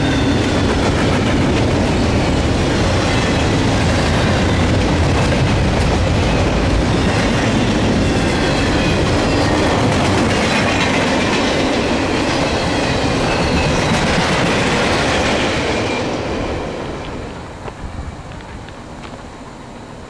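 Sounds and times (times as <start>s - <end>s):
freight train rushing past: 0.0s - 20.0s.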